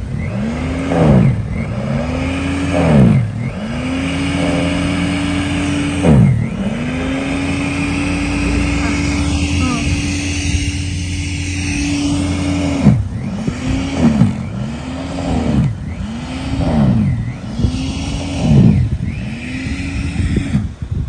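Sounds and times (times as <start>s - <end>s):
snow blower motor whining: 0.0s - 21.0s.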